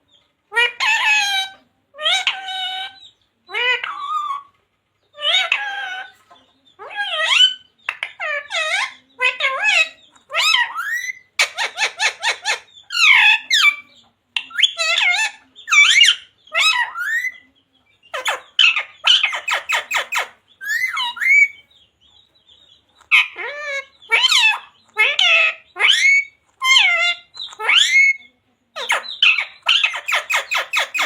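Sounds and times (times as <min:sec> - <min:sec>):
parrot squawking: 0:00.5 - 0:04.5, 0:05.2 - 0:06.2, 0:06.8 - 0:17.4, 0:18.1 - 0:21.6, 0:23.0 - 0:31.0.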